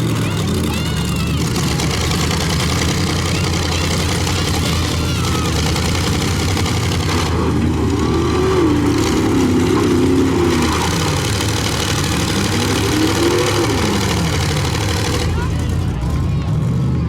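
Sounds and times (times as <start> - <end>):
engine revving: 0.0 - 17.0
truck engines running loud: 0.0 - 17.0.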